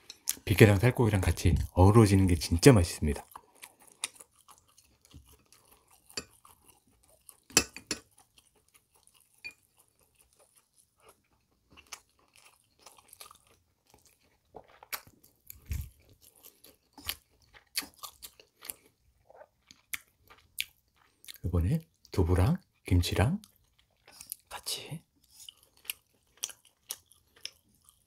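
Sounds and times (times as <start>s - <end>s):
person chewing food: 0.0s - 0.5s, 3.1s - 28.0s.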